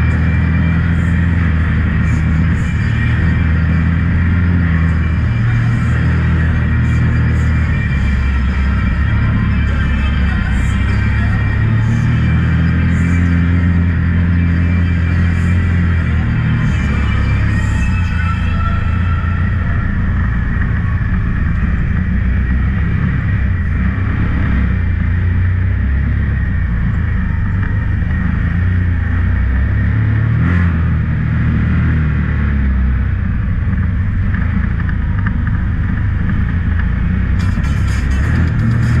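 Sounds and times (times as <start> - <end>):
engine revving under load: 0.0 - 33.2, 36.0 - 39.0.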